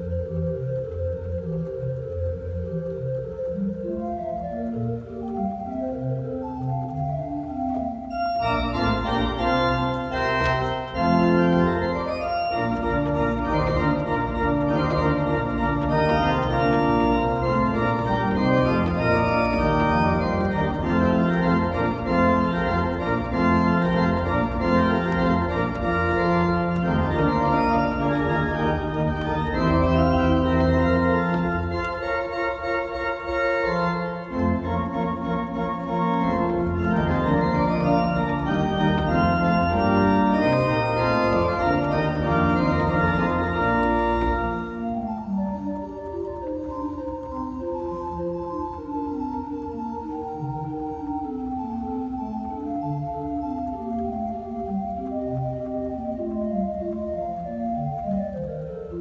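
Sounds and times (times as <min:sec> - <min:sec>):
organ chords: 0:00.0 - 0:59.0
organ pedal bass line: 0:00.0 - 0:59.0.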